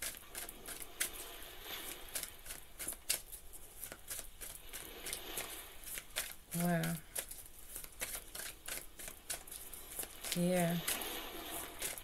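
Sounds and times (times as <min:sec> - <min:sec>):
cards being shuffled: 0:02.1 - 0:12.0.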